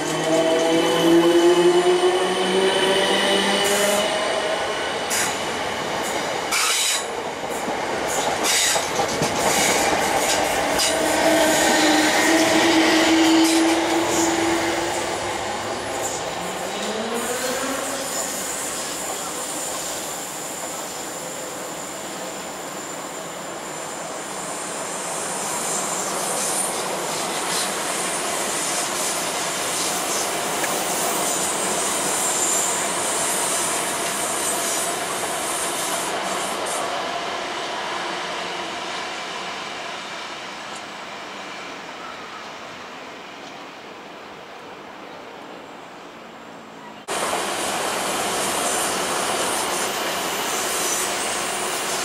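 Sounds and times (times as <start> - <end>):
train running on tracks: 0.0 - 52.0.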